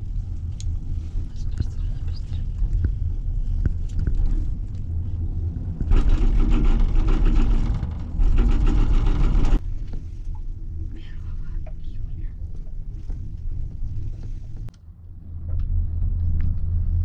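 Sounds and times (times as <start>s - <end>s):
gondola low rumble: 0.0s - 17.0s
rapid rattling rumble: 0.0s - 17.0s.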